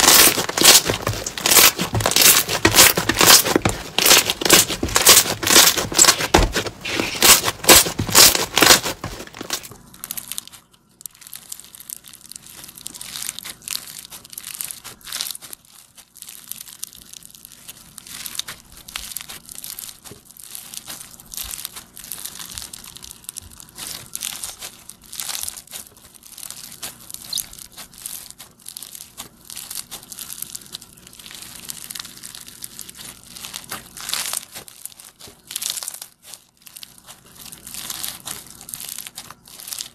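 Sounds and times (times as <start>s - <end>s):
slime squeezed with crackling: 0.0s - 39.9s.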